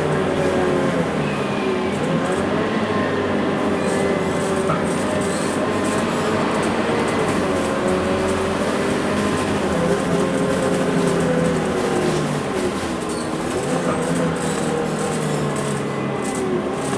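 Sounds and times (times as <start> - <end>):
bus diesel engine under load: 0.0 - 16.9
road and tyre noise: 0.0 - 16.9.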